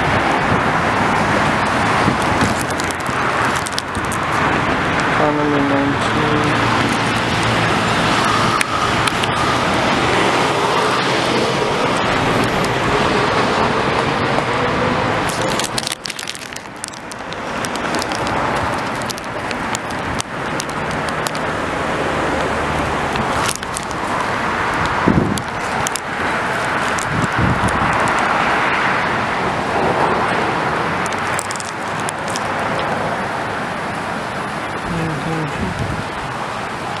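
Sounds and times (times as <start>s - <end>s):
cars passing: 0.0s - 37.0s
vehicle accelerating: 0.0s - 37.0s.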